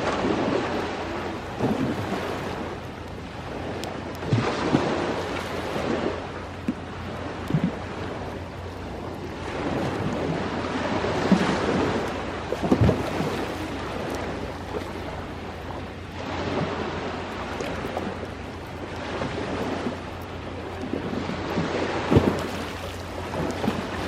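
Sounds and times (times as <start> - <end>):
ocean waves washing ashore: 0.0 - 24.0.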